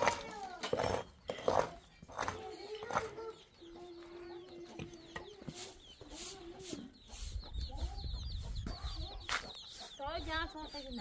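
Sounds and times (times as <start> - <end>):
hens clucking: 0.0 - 11.0
small birds chirping: 0.0 - 11.0.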